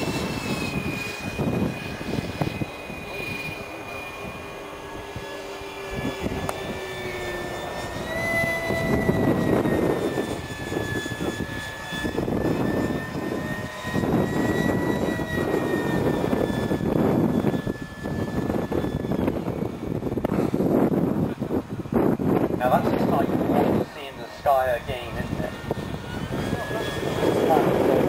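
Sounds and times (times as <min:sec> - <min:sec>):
electric fan whining: 0:00.0 - 0:28.0
wind buffeting microphone: 0:00.0 - 0:28.0.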